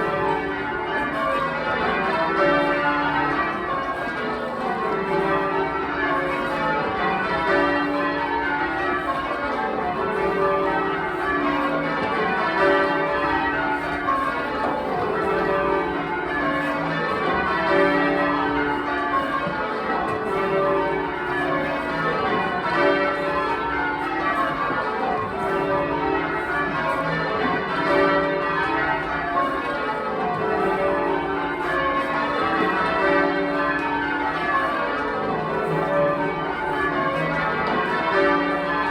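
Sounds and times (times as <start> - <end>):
church bells ringing rounds: 0.0 - 38.9.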